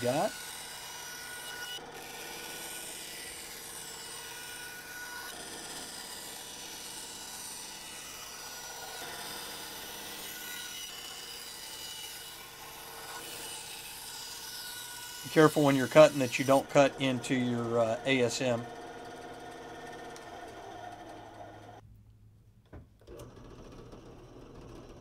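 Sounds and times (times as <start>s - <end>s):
band saw cutting plastic: 0.0s - 21.8s.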